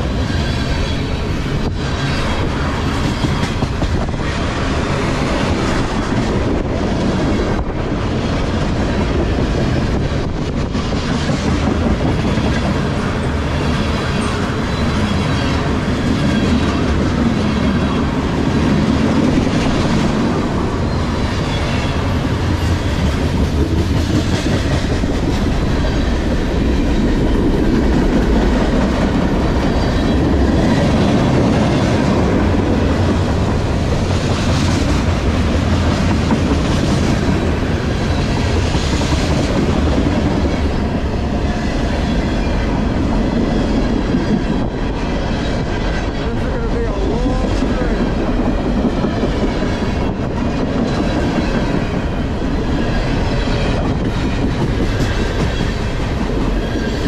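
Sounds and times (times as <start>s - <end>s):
steel wheels rumbling on rail: 0.0s - 57.0s
wheels clickety-clack on rail joints: 0.0s - 57.0s.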